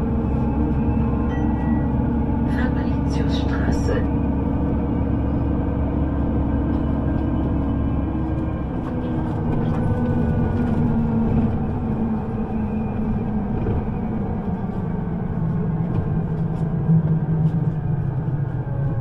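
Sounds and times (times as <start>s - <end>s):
underground train rumbling: 0.0s - 19.0s.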